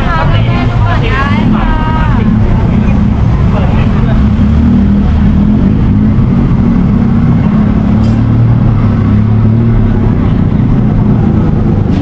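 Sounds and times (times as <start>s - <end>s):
engine droning loudly: 0.0s - 12.0s.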